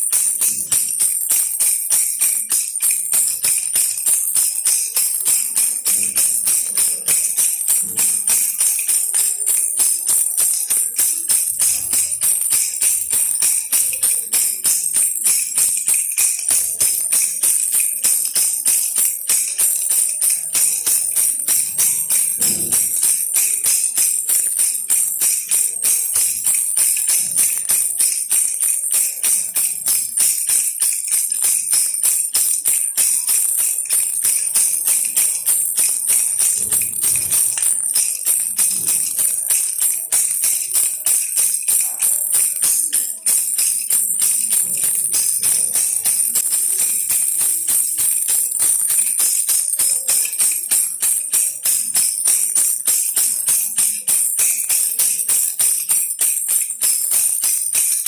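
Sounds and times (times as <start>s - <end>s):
baby rattle jingling: 0.0s - 58.0s.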